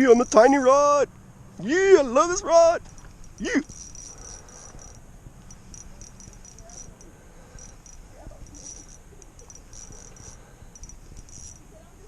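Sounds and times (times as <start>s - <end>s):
insects chirping in trills: 0.0s - 12.0s.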